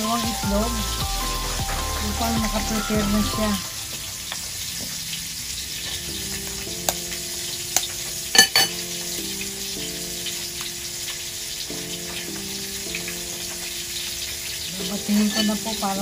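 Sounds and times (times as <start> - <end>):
soft background music: 0.0 - 16.0
steady hiss: 0.0 - 16.0.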